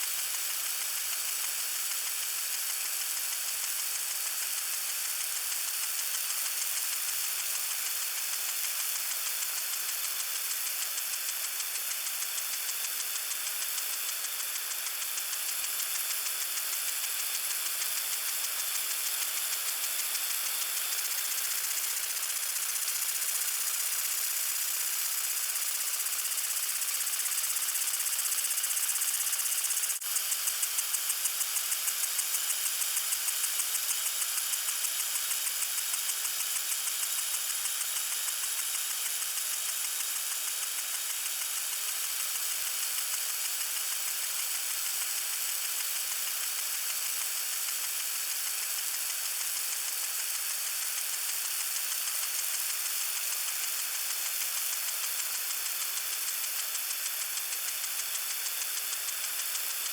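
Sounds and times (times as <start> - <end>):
water sprinkler pulsing spray: 0.0 - 59.9.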